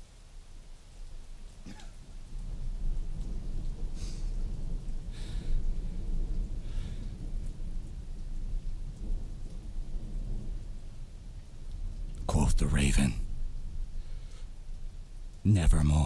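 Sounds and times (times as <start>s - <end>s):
rain: 0.0s - 16.0s
thunder rumbling: 0.0s - 16.0s.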